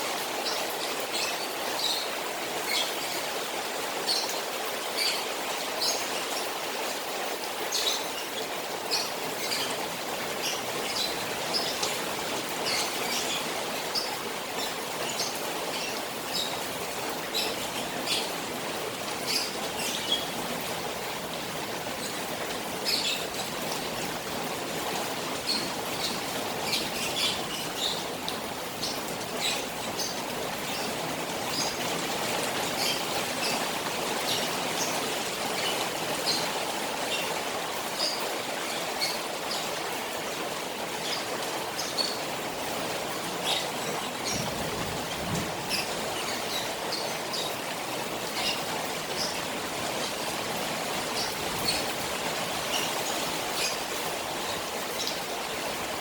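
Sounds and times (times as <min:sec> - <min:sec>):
rain on a pond: 0:00.0 - 0:56.0
running water: 0:00.0 - 0:56.0.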